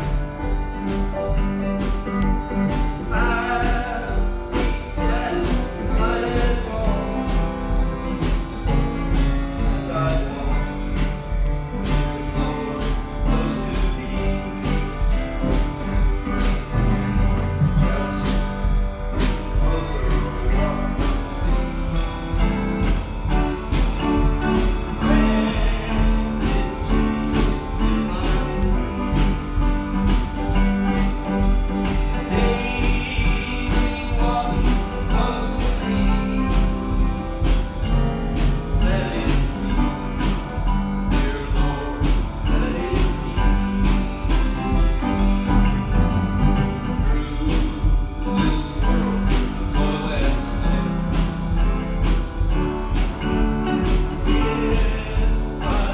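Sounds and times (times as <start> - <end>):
music with steady beat: 0.0 - 55.9
person singing: 0.0 - 55.9.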